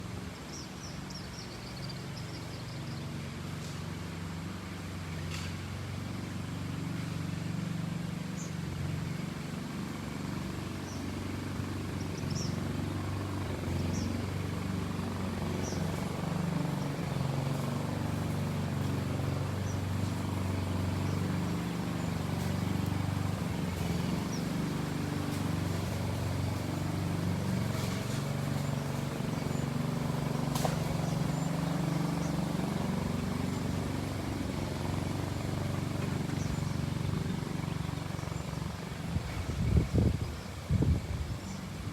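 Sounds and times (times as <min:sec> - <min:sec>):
jet airliner engines rumbling overhead: 0:00.0 - 0:41.9.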